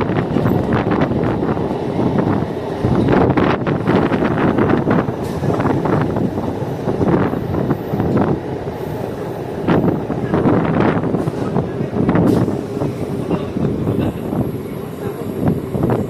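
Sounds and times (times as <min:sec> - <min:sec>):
electric train rumbling: 0:00.0 - 0:16.0
rail clatter: 0:00.0 - 0:16.0.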